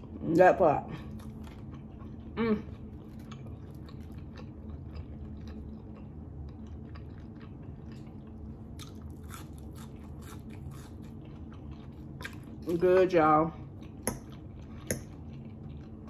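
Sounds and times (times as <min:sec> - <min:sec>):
steady low hum: 0:00.0 - 0:16.0
person chewing: 0:01.0 - 0:12.7, 0:13.6 - 0:16.0.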